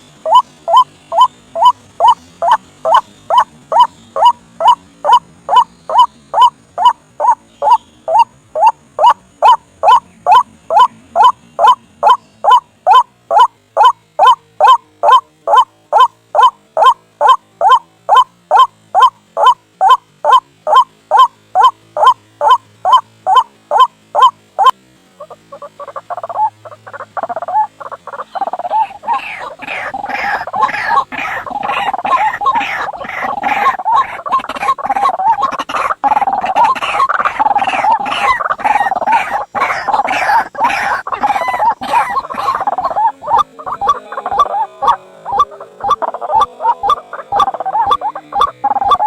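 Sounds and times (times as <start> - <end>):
waterhen calling: 0.0 - 49.0.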